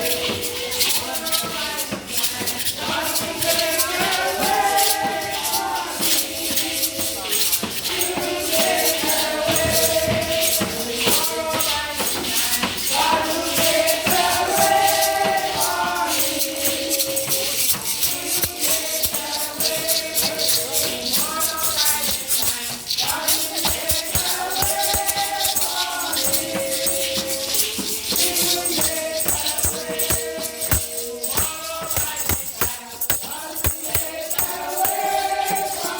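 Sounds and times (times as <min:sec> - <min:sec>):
group of voices singing: 0:00.0 - 0:35.9
shaker rattling: 0:00.0 - 0:35.9.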